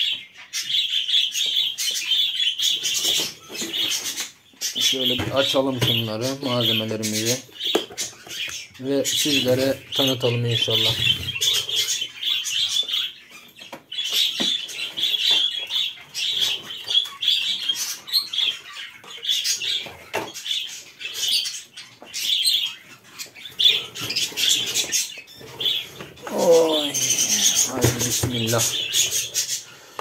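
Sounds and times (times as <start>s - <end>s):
caged birds chirping: 0.0s - 30.0s.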